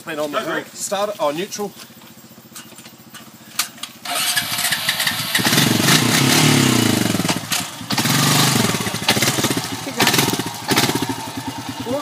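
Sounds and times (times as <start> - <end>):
motorbike engine starting and revving: 1.9 - 12.0.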